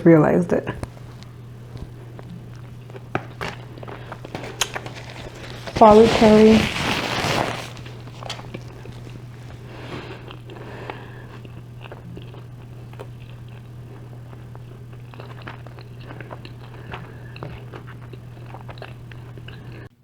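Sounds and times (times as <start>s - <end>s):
steady low hum: 0.0s - 20.0s
chewing with wet mouth clicks: 0.7s - 5.0s, 8.1s - 19.9s.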